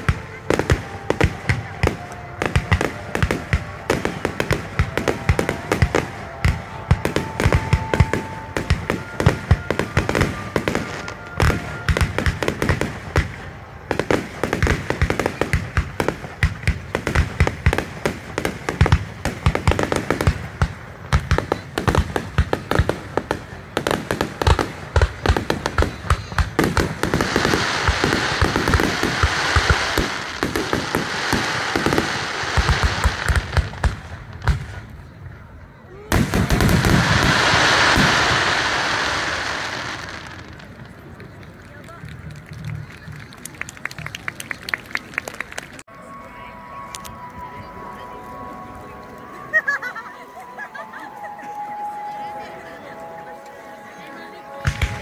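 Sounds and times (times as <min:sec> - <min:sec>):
crackling hiss of fireworks: 0:00.0 - 0:45.9, 0:54.5 - 0:55.0.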